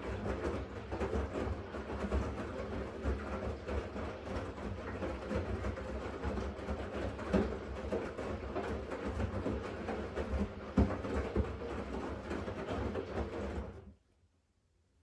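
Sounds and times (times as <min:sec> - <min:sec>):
washing machine motor rumble: 0:00.0 - 0:13.9.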